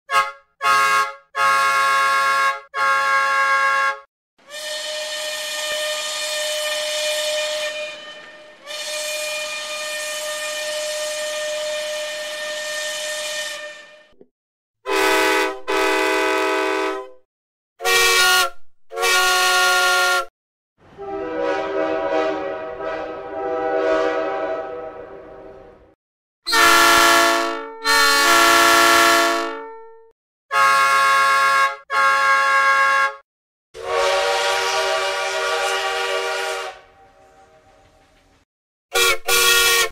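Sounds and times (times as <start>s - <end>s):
train horns blasting: 0.1s - 14.2s, 14.8s - 17.2s, 17.8s - 20.3s, 20.9s - 33.2s, 33.8s - 37.7s, 38.9s - 39.9s.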